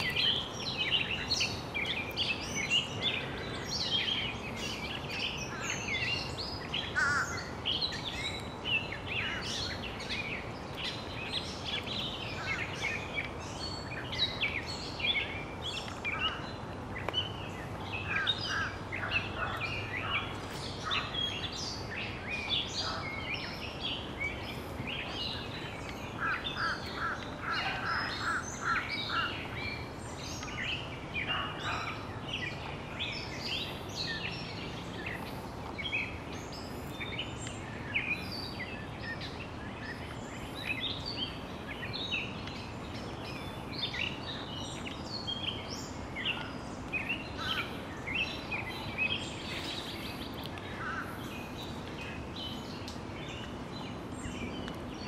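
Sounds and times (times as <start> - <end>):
songbirds singing and chirping: 0.0 - 55.0
steady background noise: 0.0 - 55.0.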